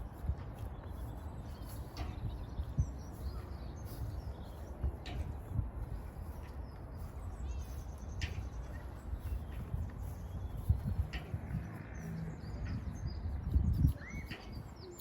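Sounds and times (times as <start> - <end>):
steady low rumble: 0.0 - 14.0
footsteps on a path: 0.0 - 15.0
small birds chirping: 0.0 - 15.0.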